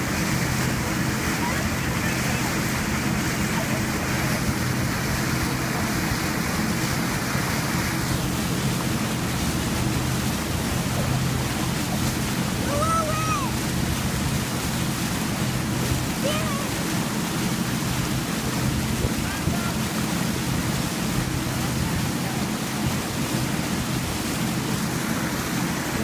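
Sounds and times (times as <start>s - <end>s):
churning wake water: 0.0s - 26.0s
motorboat engine hum: 0.0s - 26.0s.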